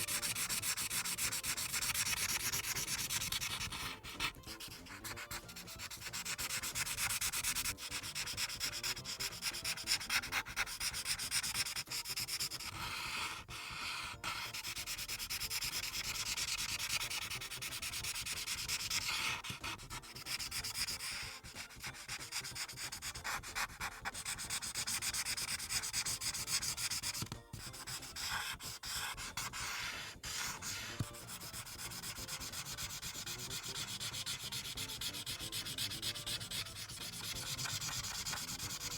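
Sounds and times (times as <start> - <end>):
marker scratching on paper: 0.0 - 38.9.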